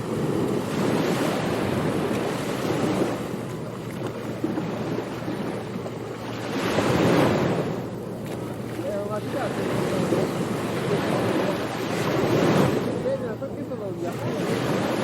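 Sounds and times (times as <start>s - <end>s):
surf breaking on a beach: 0.0s - 15.0s
wind on microphone: 0.0s - 15.0s.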